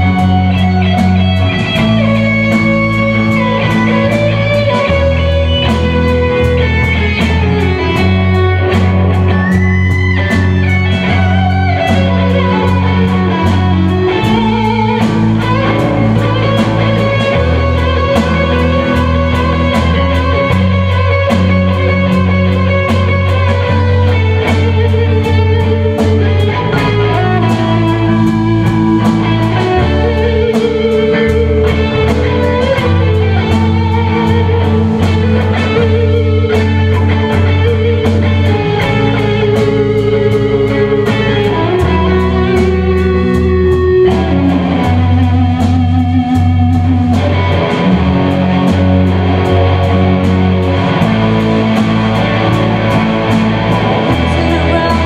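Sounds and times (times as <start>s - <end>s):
drum kit beat: 0.0s - 55.0s
electric bass notes: 0.0s - 55.0s
electric lead guitar melody: 0.0s - 55.0s
rhythm guitar: 0.0s - 55.0s.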